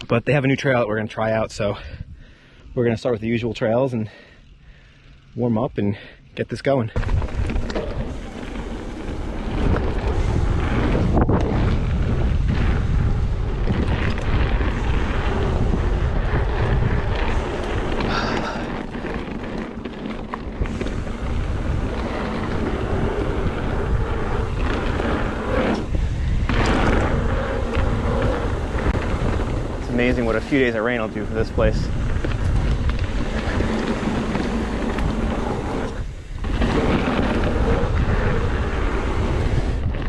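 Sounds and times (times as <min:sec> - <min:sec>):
tyres rumbling on dirt: 0:06.6 - 0:40.0
wind buffeting microphone: 0:07.0 - 0:40.0.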